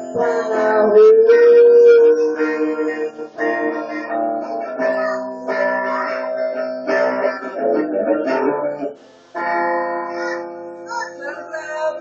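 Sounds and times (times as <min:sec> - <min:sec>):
electric guitar strumming chords: 0:00.0 - 0:12.0.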